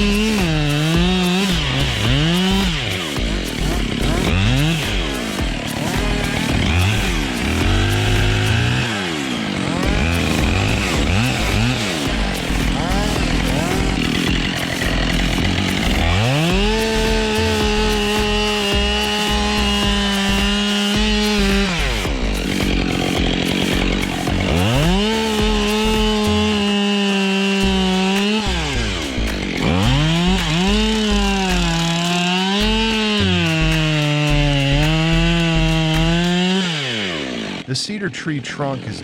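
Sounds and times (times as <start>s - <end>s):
chainsaw engine revving: 0.0s - 37.8s.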